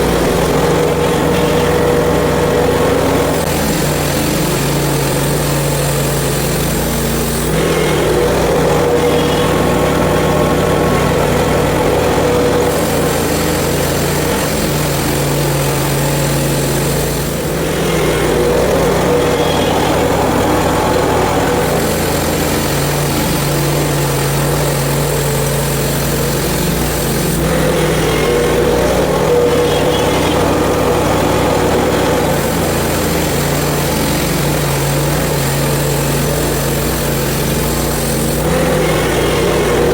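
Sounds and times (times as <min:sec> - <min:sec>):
bandsaw cutting through log: 0:00.0 - 0:39.9
sawmill engine running: 0:00.0 - 0:39.9.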